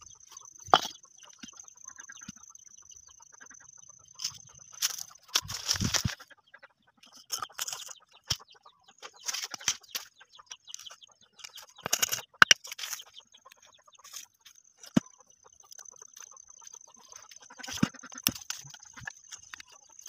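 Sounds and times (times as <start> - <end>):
bricks and sticks rustling and scraping: 0.1 - 1.6, 4.2 - 6.2, 7.0 - 20.0.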